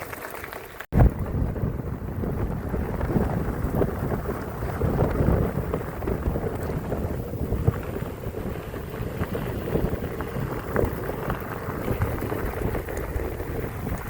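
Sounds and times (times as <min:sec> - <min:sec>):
wind buffeting microphone: 0:00.9 - 0:14.0.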